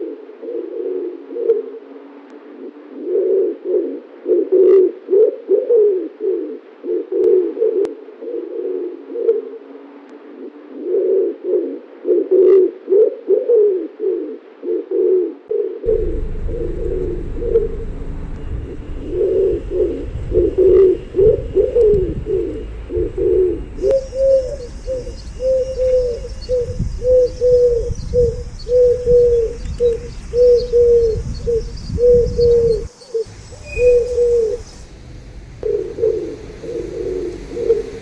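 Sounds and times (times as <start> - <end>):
pigeons cooing: 0.0 - 34.8, 35.6 - 38.0.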